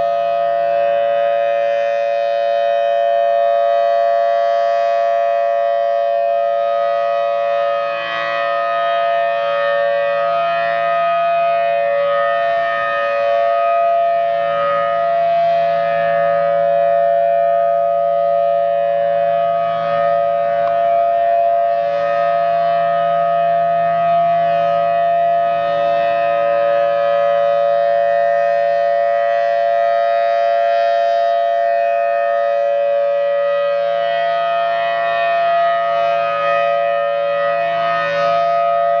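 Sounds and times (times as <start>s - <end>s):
warning siren steady tone: 0.0s - 39.0s.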